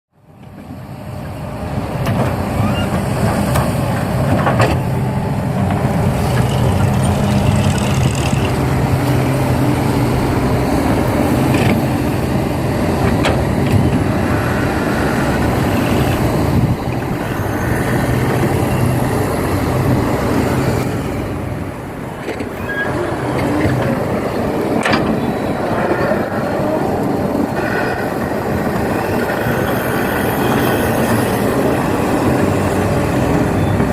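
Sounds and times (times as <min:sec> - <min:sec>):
diesel engine hum: 0:00.7 - 0:29.6.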